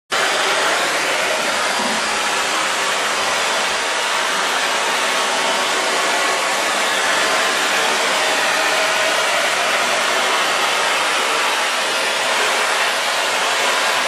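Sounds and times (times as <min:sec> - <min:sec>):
vacuum cleaner running: 0:00.1 - 0:14.0
vacuum nozzle on wooden floor: 0:00.1 - 0:14.0.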